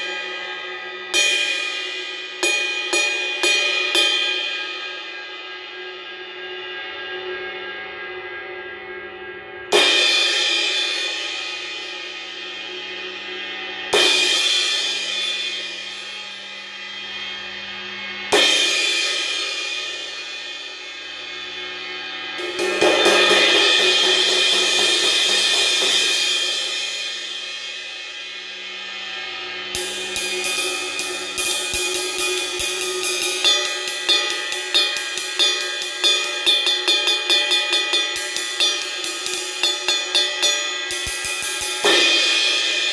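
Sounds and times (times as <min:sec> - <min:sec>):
cymbal struck with drumstick: 0:00.0 - 0:05.9, 0:09.7 - 0:13.1, 0:13.9 - 0:42.9.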